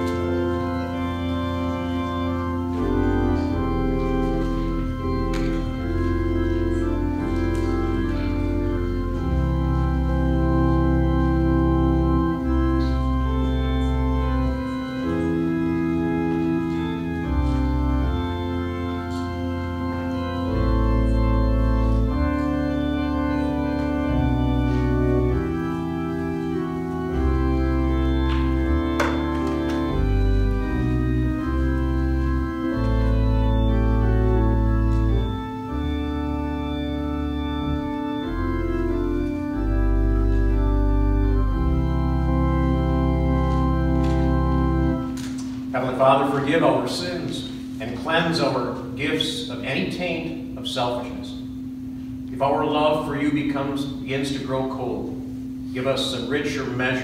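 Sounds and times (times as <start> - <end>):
organ playing slow chords: 0.0 - 57.0.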